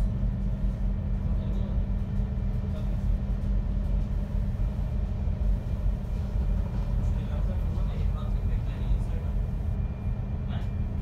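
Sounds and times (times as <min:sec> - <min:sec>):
bus engine and road rumble: 0:00.0 - 0:11.0
constant low hum: 0:00.0 - 0:11.0.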